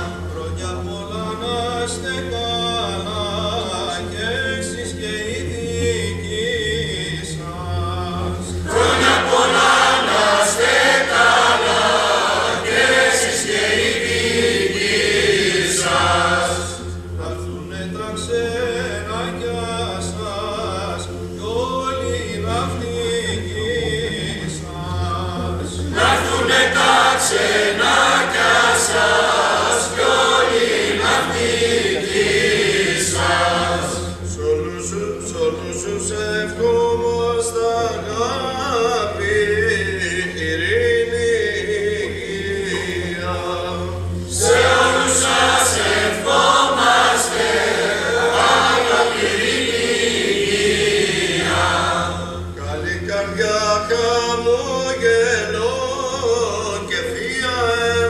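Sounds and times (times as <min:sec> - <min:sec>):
mixed choir singing: 0:00.0 - 0:02.2, 0:08.2 - 0:36.6, 0:37.4 - 0:54.4.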